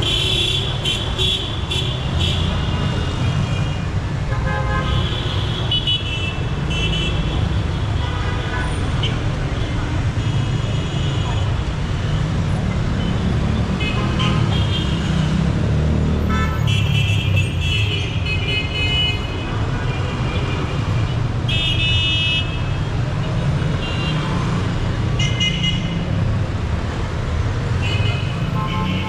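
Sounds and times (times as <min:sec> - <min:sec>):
city street traffic rumbling: 0:00.0 - 0:29.0.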